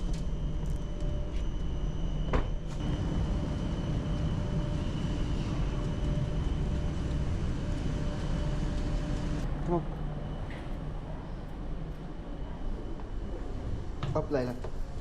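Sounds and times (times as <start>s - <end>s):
faint hum tones: 0.0s - 15.0s.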